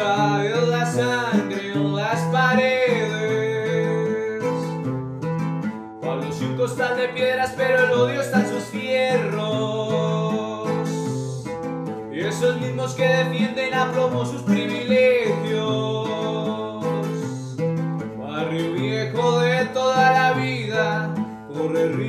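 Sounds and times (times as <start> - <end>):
man singing: 0.0 - 5.2, 6.0 - 22.0.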